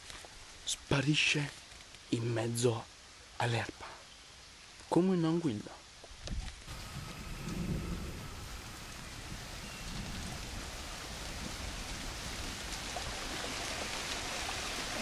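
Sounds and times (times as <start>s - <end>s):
heavy rain on foliage: 0.0s - 15.0s.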